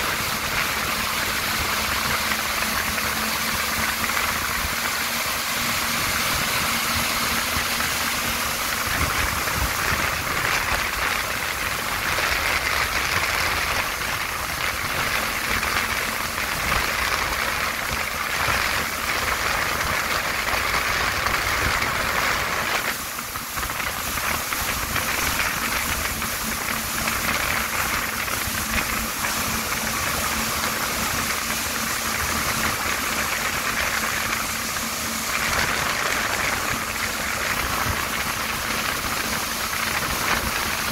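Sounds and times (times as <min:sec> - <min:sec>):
jet wake and spray rushing: 0:00.0 - 0:40.9
watercraft engine running: 0:00.0 - 0:40.9.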